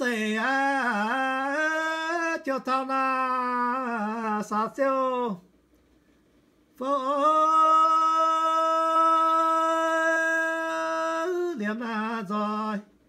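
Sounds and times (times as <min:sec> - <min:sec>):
man singing unaccompanied: 0:00.0 - 0:05.5, 0:06.8 - 0:13.0.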